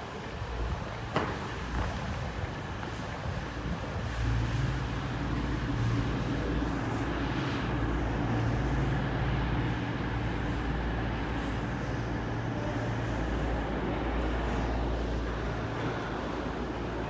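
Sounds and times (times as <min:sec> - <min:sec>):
diesel train engine humming: 0:02.5 - 0:17.0.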